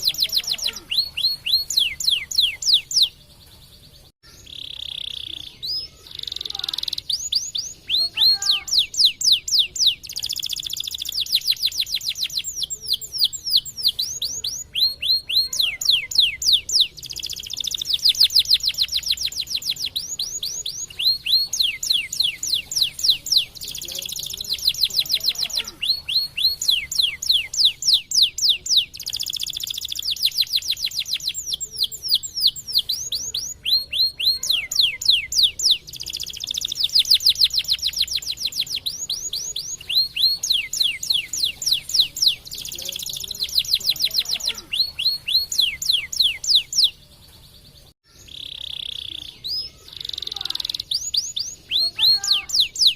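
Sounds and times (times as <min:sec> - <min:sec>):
canary singing trills: 0:00.0 - 0:52.9.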